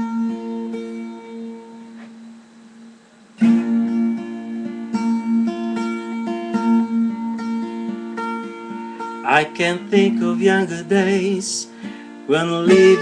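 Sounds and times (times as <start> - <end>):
guitar picking single notes: 0.0 - 13.0.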